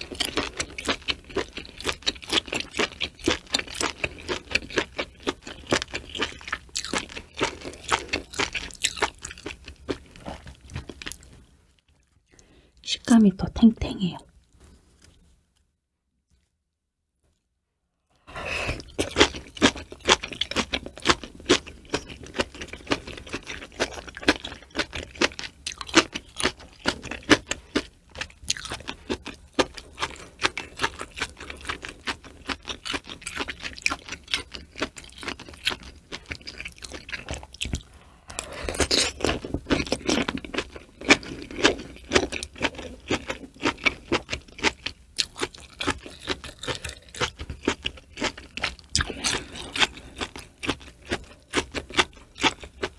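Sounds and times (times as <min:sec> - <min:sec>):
wet chewing and mouth smacking: 0:00.0 - 0:12.5, 0:18.7 - 0:52.9.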